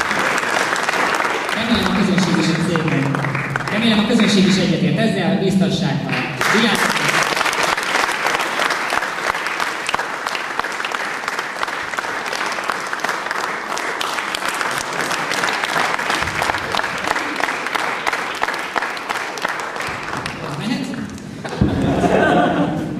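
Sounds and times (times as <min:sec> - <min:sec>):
audience applauding: 0:00.0 - 0:04.8, 0:06.1 - 0:22.6.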